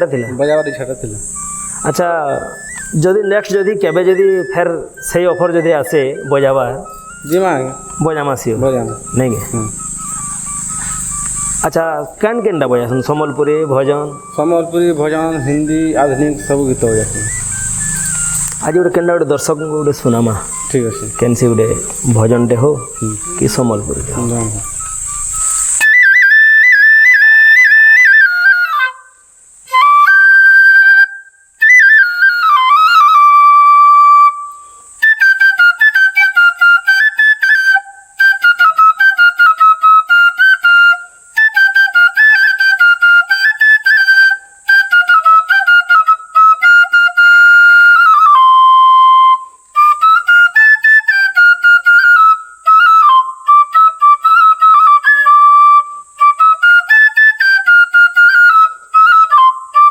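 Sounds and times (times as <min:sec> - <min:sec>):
bamboo flute melody: 0:00.0 - 0:59.9.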